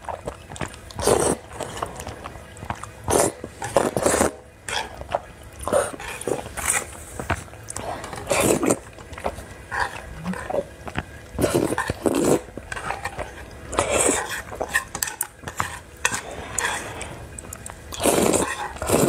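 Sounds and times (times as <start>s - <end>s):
chewing: 0.0s - 19.0s
noodles being slurped: 0.0s - 19.0s.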